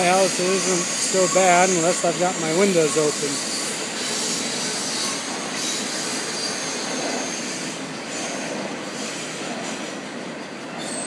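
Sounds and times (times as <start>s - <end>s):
high wheel squeal: 0.0s - 9.4s, 10.7s - 11.0s
train wheels running on rails: 0.0s - 11.0s.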